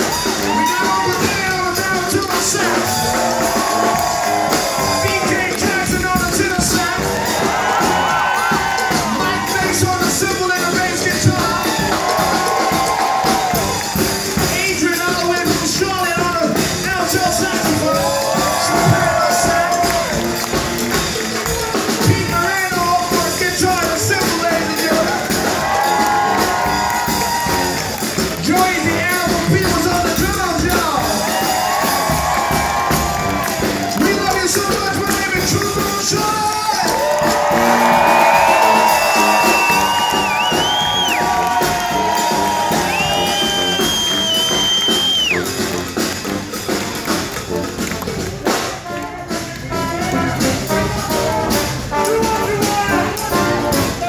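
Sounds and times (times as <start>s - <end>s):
brass band playing: 0.0s - 54.0s
drums: 0.0s - 54.0s.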